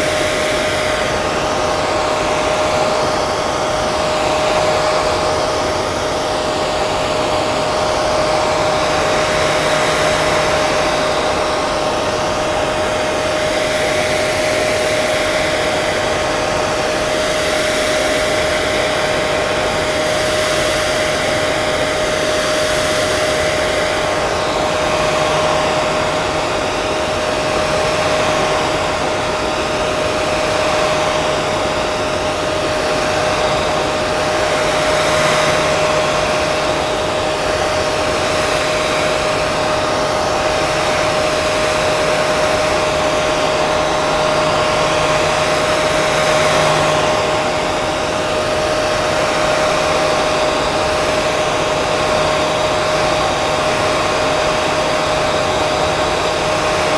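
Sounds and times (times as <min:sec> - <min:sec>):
hair dryer running: 0:00.0 - 0:56.9.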